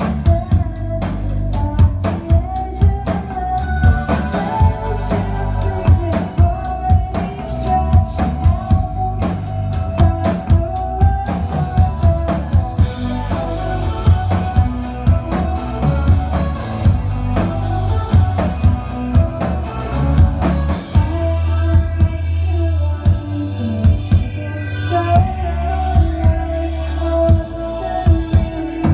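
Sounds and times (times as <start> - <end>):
drum kit beat: 0.0 - 22.3, 23.1 - 24.4, 25.2 - 25.4, 26.0 - 26.5, 28.1 - 28.9
bass guitar: 0.0 - 28.9
electric guitar: 0.0 - 28.9.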